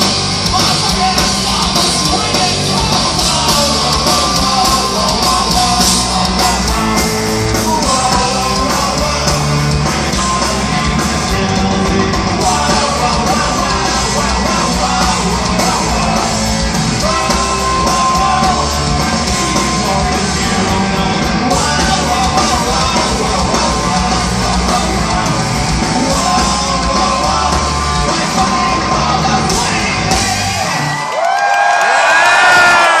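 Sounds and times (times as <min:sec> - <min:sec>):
bass guitar: 0:00.0 - 0:31.1
distorted electric guitars: 0:00.0 - 0:31.1
drums: 0:00.0 - 0:33.0
person shouting singing: 0:00.4 - 0:33.0.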